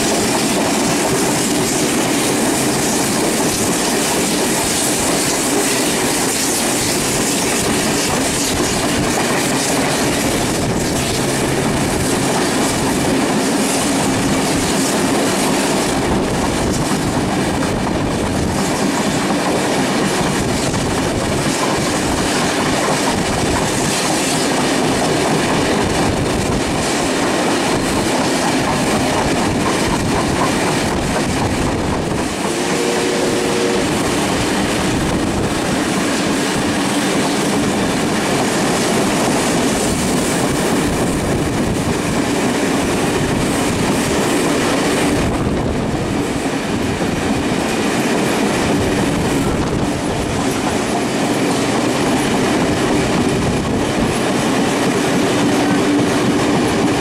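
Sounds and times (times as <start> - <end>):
train wheels clickety-clack on rail: 0.0 - 57.0.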